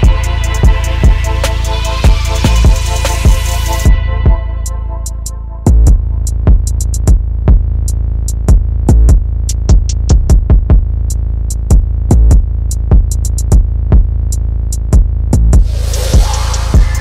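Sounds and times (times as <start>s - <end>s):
electronic music beat: 0.0s - 17.0s.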